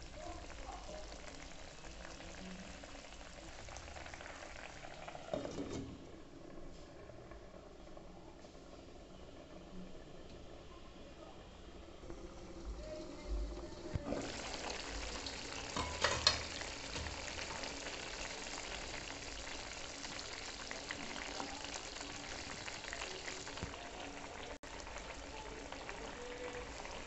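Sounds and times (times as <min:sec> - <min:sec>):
curry bubbling and sizzling: 0:00.0 - 0:27.0.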